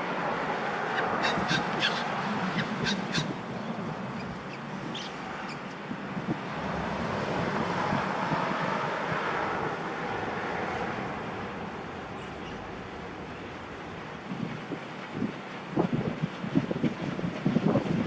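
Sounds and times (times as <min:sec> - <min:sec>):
train rolling: 0:00.0 - 0:18.0.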